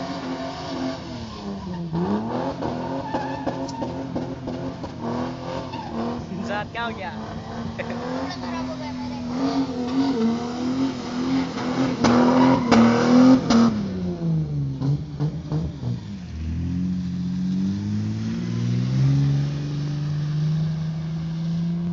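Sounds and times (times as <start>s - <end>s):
car engine revving hard: 0.0s - 21.9s.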